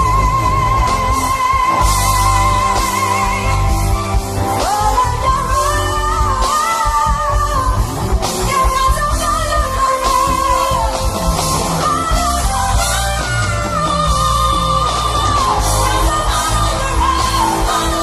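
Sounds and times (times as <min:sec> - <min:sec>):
band playing: 0:00.0 - 0:18.0
woman singing: 0:00.0 - 0:18.0.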